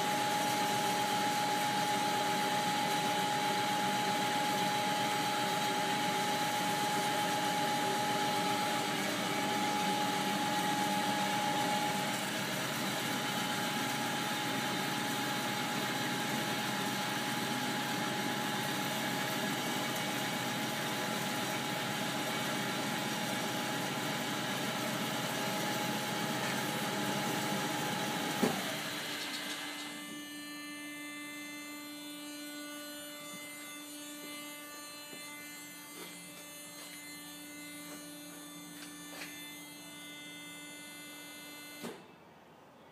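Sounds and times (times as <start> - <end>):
metal-cutting bandsaw running: 0.0 - 41.7.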